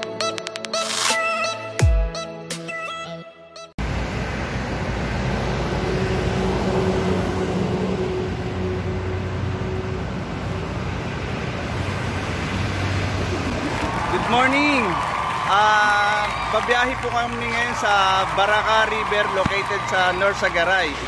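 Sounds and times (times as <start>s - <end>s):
roadside traffic rush: 3.8s - 21.0s
vehicle engine humming: 3.8s - 21.0s.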